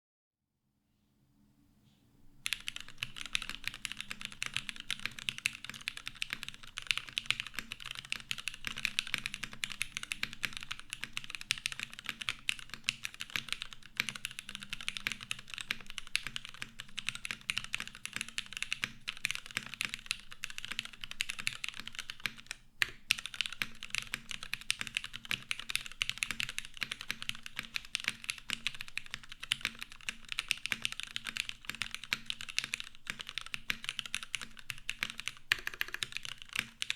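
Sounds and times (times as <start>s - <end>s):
fast typing on mechanical keyboard: 2.4s - 36.9s.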